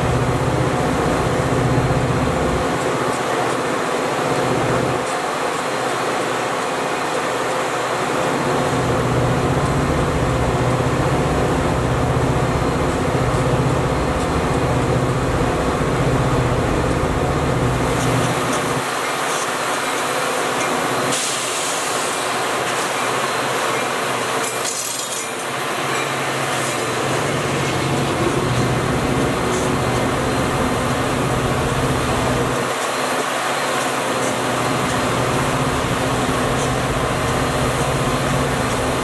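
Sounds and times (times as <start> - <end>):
low diesel drone: 0.0 - 39.0
train rail rumble: 0.0 - 39.0.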